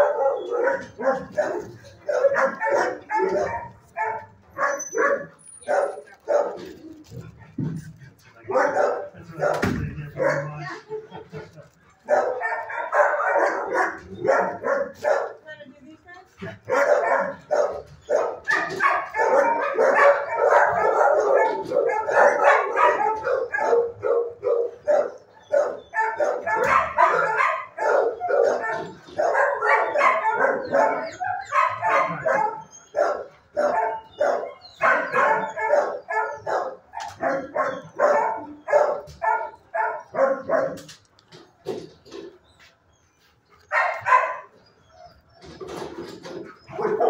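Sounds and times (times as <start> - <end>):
dogs barking: 0.0 - 15.5, 16.4 - 42.7, 43.6 - 47.0.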